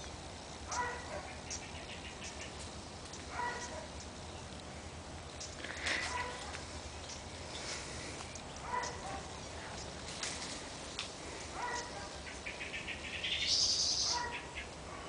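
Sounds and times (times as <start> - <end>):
songbirds calling: 0.0 - 15.0.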